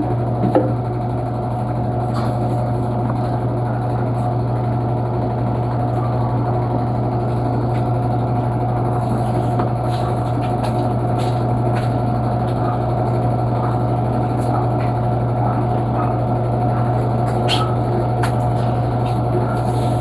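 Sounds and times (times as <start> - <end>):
washing machine motor drone: 0.0 - 20.0.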